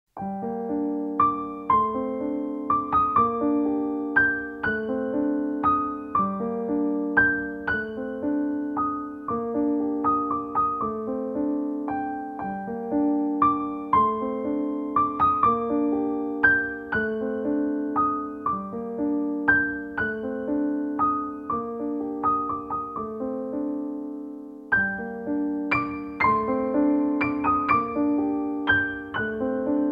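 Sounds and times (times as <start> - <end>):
gentle piano music: 0.2 - 29.9.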